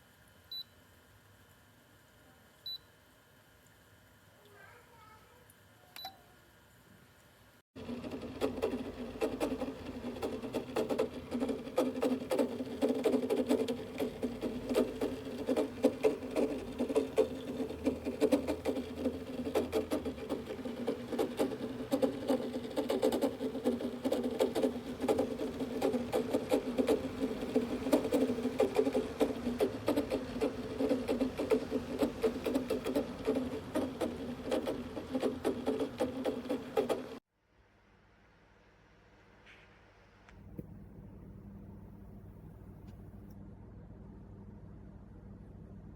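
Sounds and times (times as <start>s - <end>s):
humidifier running: 0.0s - 37.2s, 40.3s - 45.9s.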